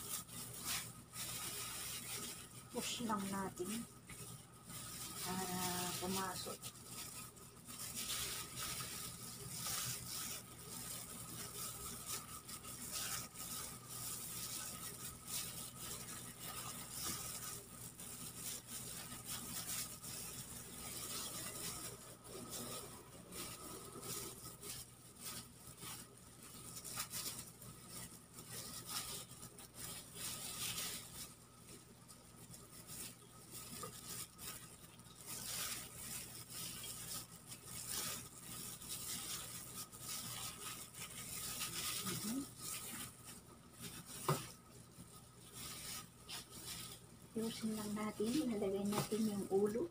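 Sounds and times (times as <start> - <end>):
hands stuffing food rustling: 0.0 - 49.9.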